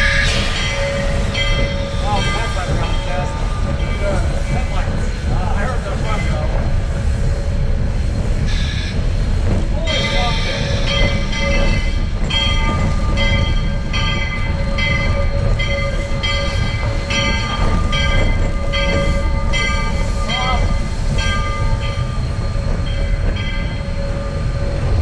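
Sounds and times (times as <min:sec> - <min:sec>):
steam locomotive bell ringing: 0:00.0 - 0:07.8, 0:09.8 - 0:25.0
low locomotive rumble: 0:00.0 - 0:25.0.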